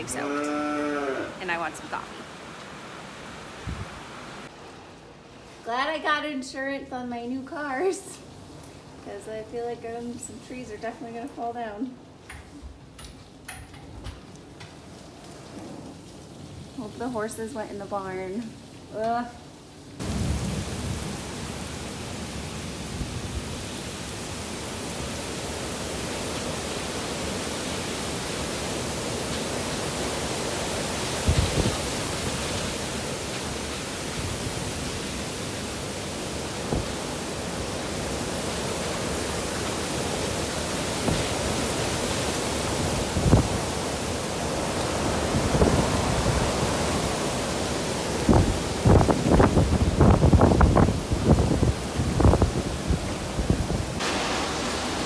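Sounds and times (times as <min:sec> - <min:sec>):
heavy rain pouring: 0:00.0 - 0:05.3, 0:14.4 - 0:55.0.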